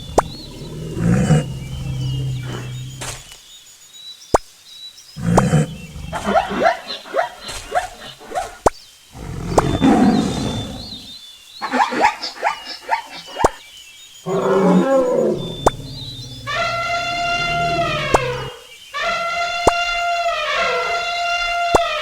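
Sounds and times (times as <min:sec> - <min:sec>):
lion roaring: 0:00.0 - 0:03.3, 0:05.2 - 0:08.6, 0:09.2 - 0:13.4, 0:14.3 - 0:22.0.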